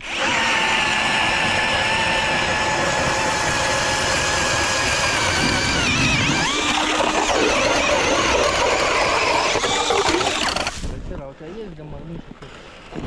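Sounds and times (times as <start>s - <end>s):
cordless drill motor whining: 0.0s - 10.9s.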